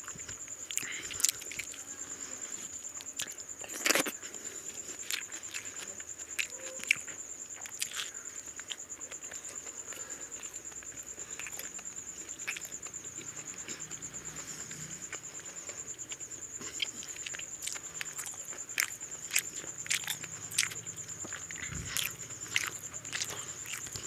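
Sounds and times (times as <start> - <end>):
chewing: 0.0 - 24.0.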